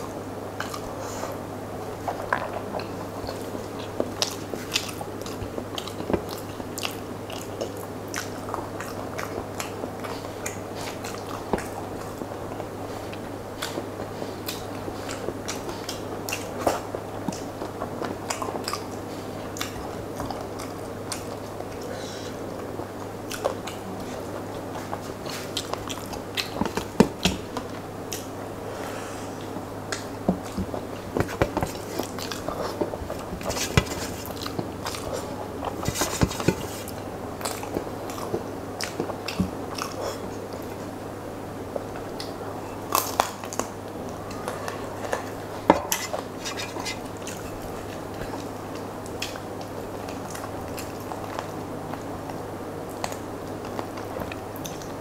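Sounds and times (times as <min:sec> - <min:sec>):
steady low hum: 0:00.0 - 0:55.0
chewing and lip smacks: 0:00.6 - 0:01.0, 0:02.0 - 0:28.4, 0:29.4 - 0:40.9, 0:41.7 - 0:55.0.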